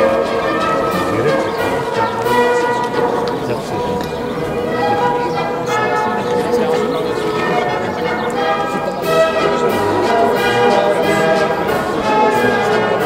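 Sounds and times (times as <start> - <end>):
bells ringing: 0.0 - 13.0.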